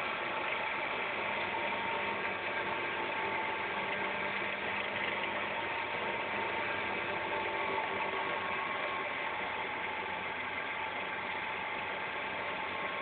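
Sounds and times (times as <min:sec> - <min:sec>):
engine mechanical clatter: 0:00.0 - 0:13.0.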